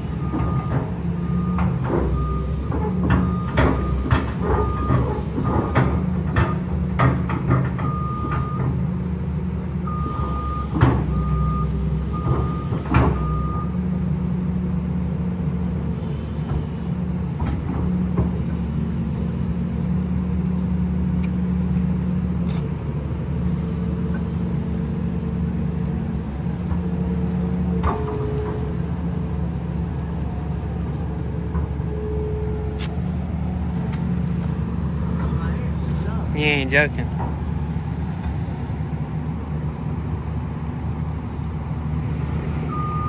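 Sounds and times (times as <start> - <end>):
diesel engine drone: 0.0 - 43.0.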